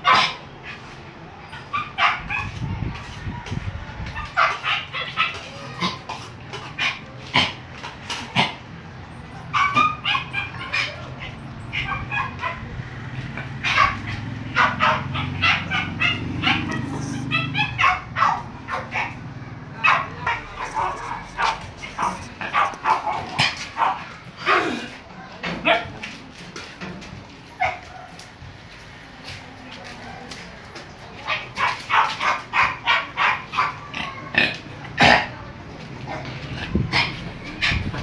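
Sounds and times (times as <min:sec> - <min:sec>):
dogs barking and yipping: 0:00.0 - 0:24.8, 0:27.5 - 0:28.5, 0:30.0 - 0:38.0.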